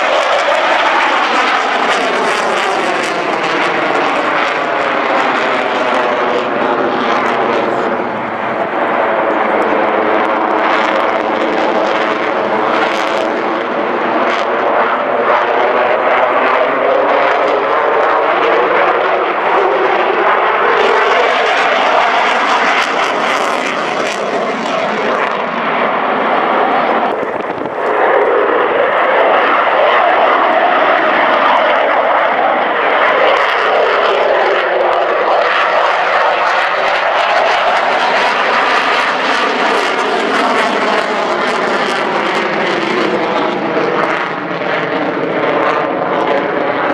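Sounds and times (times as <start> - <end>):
jet fighter engines roaring: 0.0 - 46.9.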